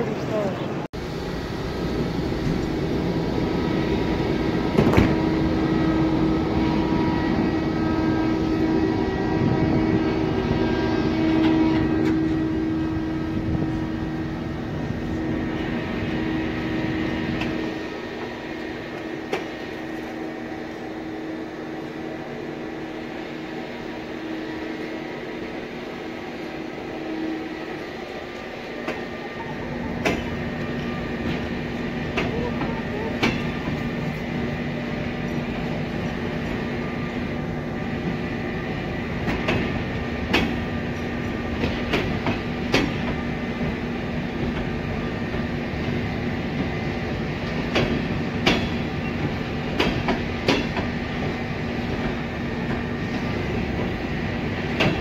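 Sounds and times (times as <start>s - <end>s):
electric train hum and whine: 0.0s - 55.0s.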